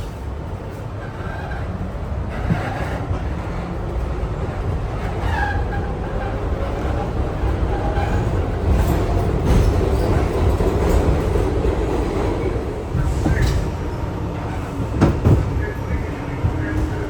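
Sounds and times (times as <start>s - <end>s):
subway train rumbling: 0.0s - 17.0s
wheels clacking on rail joint: 0.1s - 17.0s.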